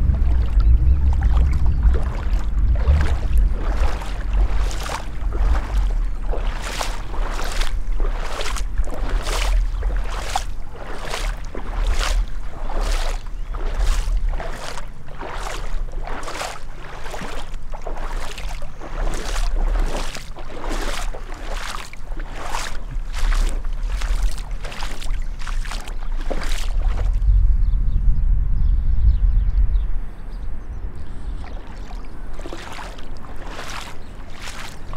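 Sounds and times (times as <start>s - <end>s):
boots splashing through water: 0.0s - 27.2s, 31.3s - 34.9s.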